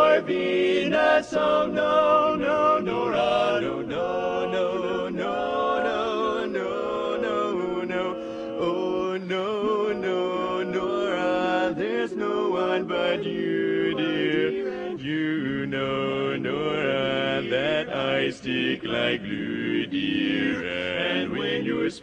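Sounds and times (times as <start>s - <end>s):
male quartet singing a cappella: 0.0s - 22.0s.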